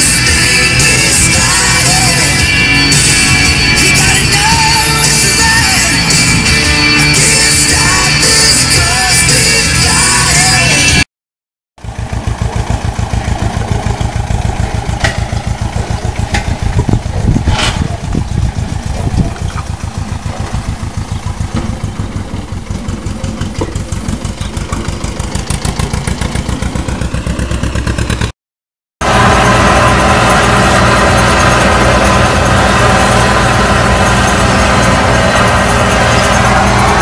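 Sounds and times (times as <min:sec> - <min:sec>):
farm machine engine running: 0:00.0 - 0:11.0, 0:11.8 - 0:28.3, 0:29.0 - 0:37.0.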